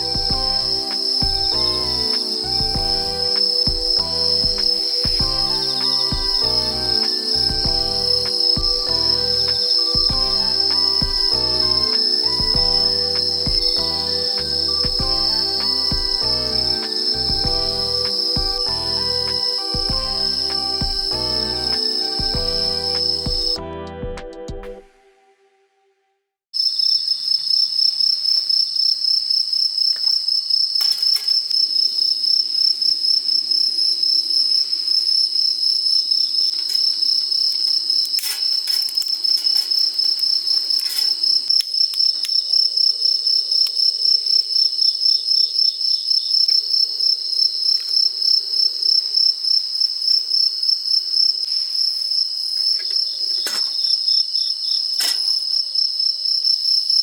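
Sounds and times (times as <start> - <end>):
crickets trilling: 0.0 - 23.6, 26.6 - 57.0.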